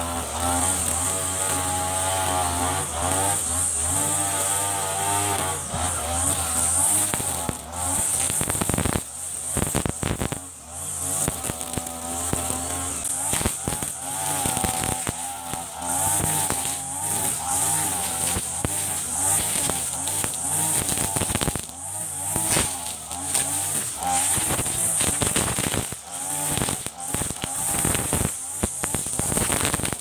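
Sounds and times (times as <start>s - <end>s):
brush cutter running: 0.0s - 30.0s
sharp engine crackles: 0.0s - 30.0s.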